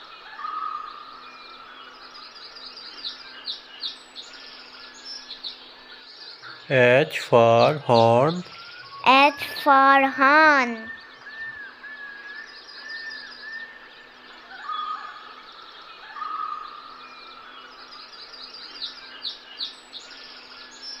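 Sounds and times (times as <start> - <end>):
birds chirping: 0.3 - 21.0.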